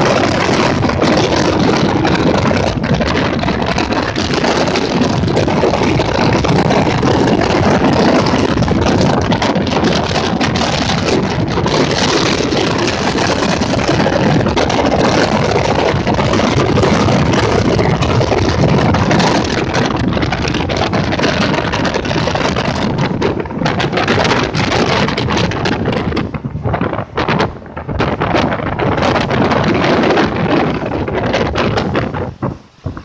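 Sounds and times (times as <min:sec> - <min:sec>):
motorboat engine running: 0:00.0 - 0:33.0
rush of water noise: 0:00.0 - 0:33.0.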